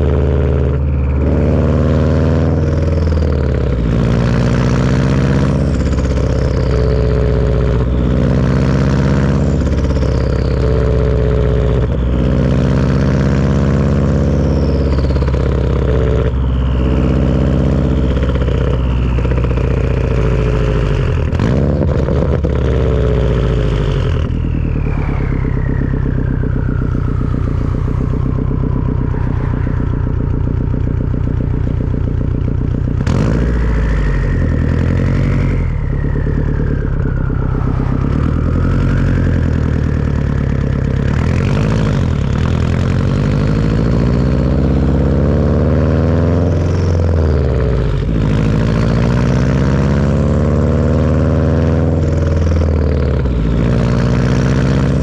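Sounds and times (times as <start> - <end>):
turbo whistling: 0.0 - 45.1
car engine running: 0.0 - 55.0.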